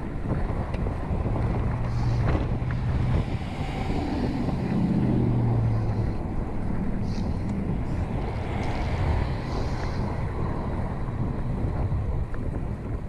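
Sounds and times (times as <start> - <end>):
low hum: 0.0 - 13.0
wind rushing over microphone: 0.0 - 13.0.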